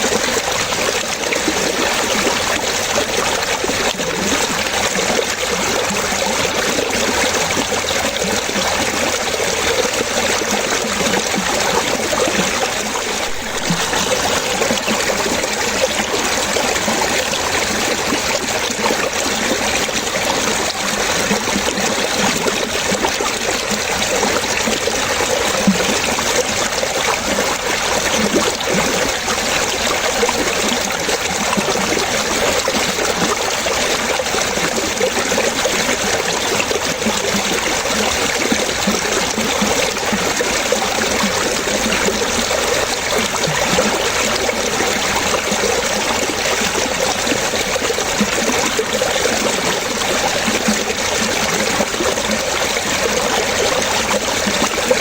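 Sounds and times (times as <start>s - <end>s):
running water trickling: 0.0s - 55.0s.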